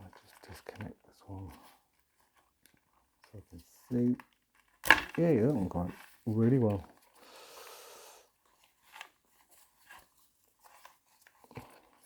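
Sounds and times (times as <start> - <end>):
soft rustle of wiring: 0.0 - 7.2, 8.2 - 12.0.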